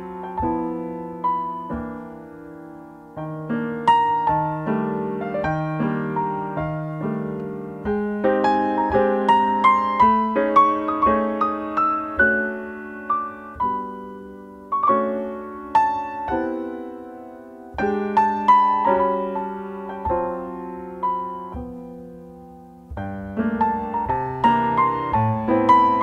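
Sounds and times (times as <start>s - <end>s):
slow solo piano piece: 0.0s - 26.0s.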